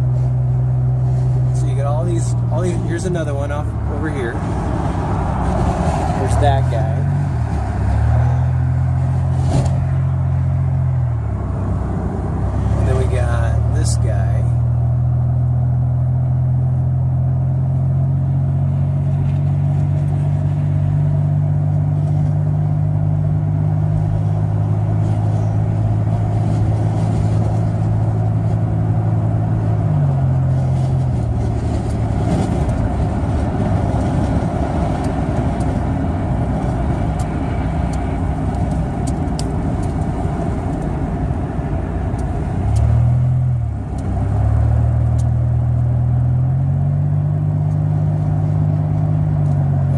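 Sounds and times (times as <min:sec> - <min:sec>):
vehicle engine and road drone: 0:00.0 - 0:49.9.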